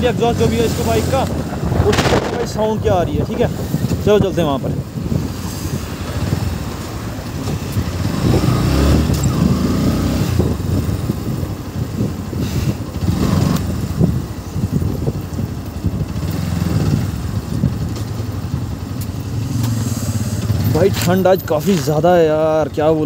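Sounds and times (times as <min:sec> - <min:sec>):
motorcycle engine revving: 0:00.0 - 0:04.1, 0:04.9 - 0:21.8.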